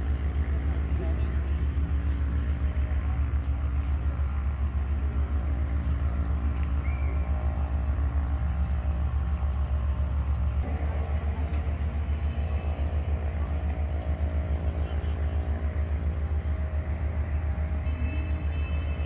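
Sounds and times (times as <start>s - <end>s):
engine rumbling with flutter: 0.0s - 19.0s.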